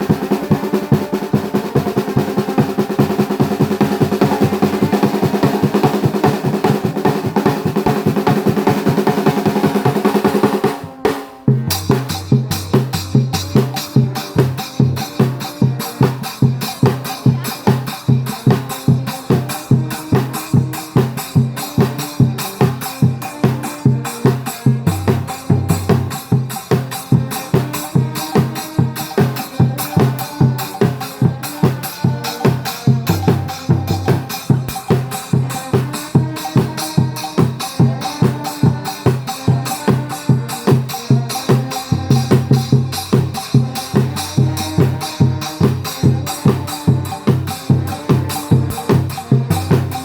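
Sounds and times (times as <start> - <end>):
steady drum beat: 0.0 - 50.0
trombone band playing: 0.0 - 50.0.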